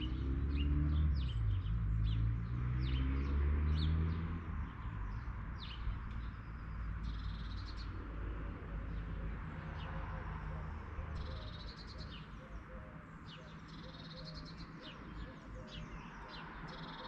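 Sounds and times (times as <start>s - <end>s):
small songbirds chirping: 0.0s - 17.0s.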